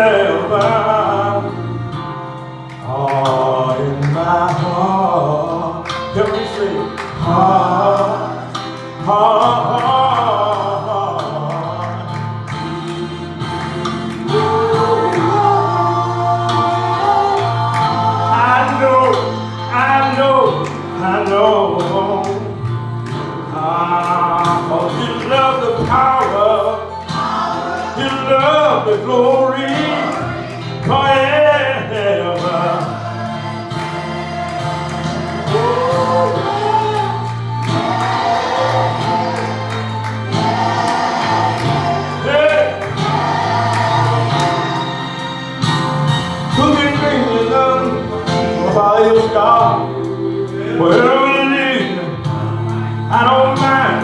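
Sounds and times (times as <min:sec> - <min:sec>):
bass line: 0:00.0 - 0:54.0
church choir singing gospel: 0:00.0 - 0:54.0.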